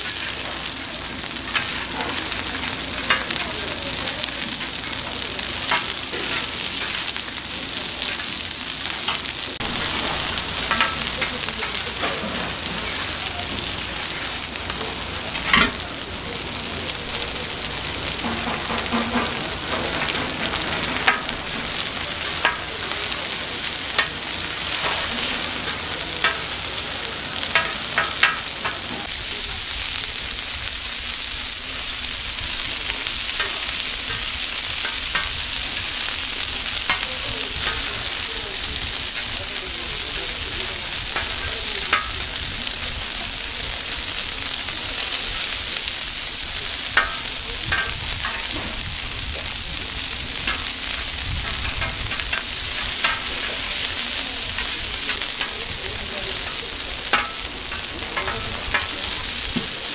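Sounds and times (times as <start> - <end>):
meat patties sizzling in oil: 0.0 - 59.9.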